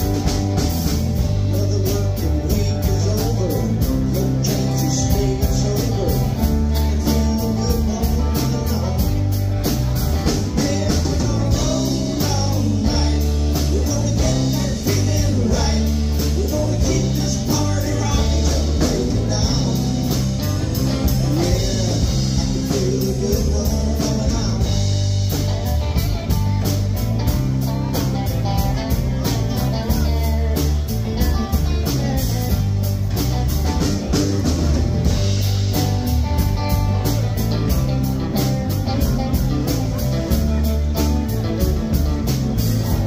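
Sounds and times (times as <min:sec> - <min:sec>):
drum kit beat: 0:00.0 - 0:43.0
electric bass: 0:00.0 - 0:43.0
electric guitars: 0:00.0 - 0:43.0.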